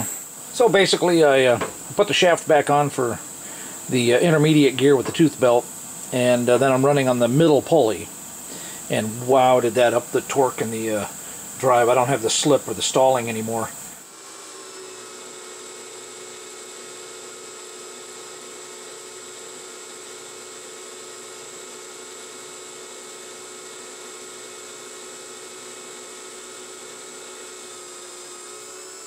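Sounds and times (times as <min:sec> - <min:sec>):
metal lathe cutting steel: 0:00.0 - 0:29.0.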